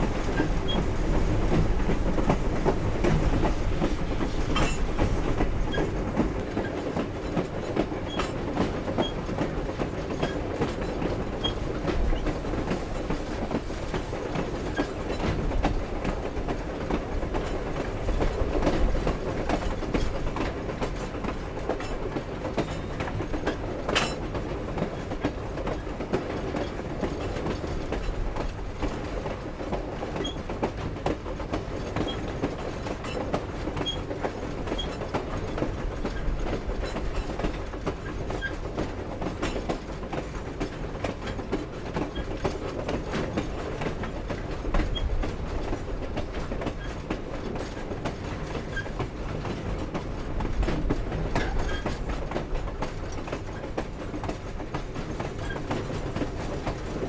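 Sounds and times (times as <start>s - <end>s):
train wheels rumbling on rails: 0.0s - 57.0s
clicks and clanks from cars: 1.5s - 57.0s.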